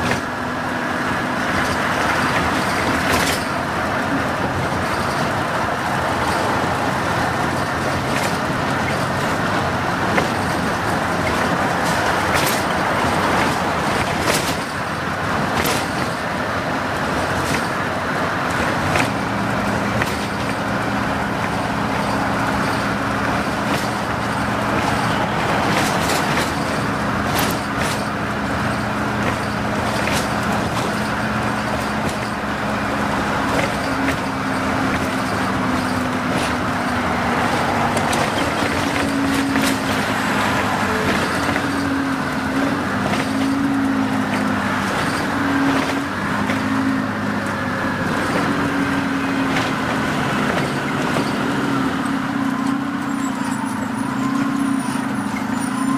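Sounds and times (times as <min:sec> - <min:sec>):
bus engine hum: 0:00.0 - 0:55.9
road and tyre noise: 0:00.0 - 0:55.9.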